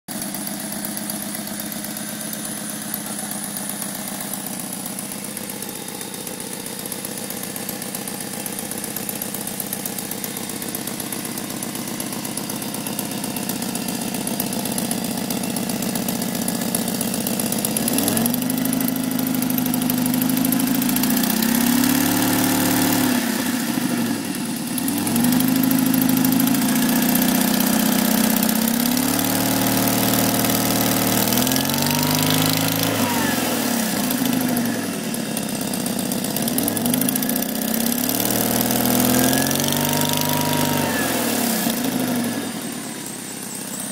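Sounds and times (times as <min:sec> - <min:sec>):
car engine idling and revving: 0:00.1 - 0:43.9.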